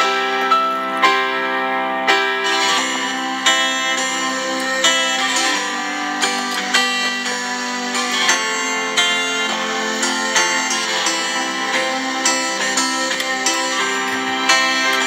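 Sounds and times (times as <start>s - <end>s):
plucked string tune with beat: 0.0s - 15.0s.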